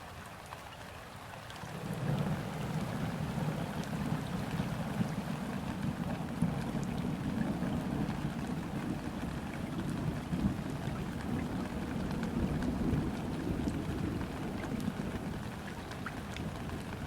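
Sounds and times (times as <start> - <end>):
rain falling on river: 0.0 - 17.0.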